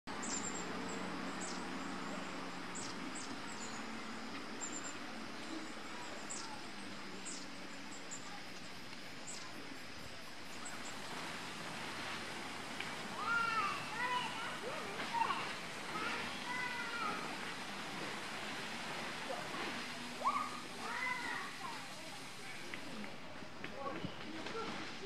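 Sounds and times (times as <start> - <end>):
outdoor background rush: 0.0 - 25.0.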